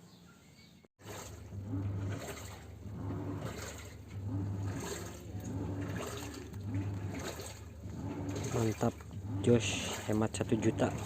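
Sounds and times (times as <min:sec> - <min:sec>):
washing machine motor humming: 0:01.0 - 0:11.0
water churning and sloshing: 0:01.0 - 0:11.0.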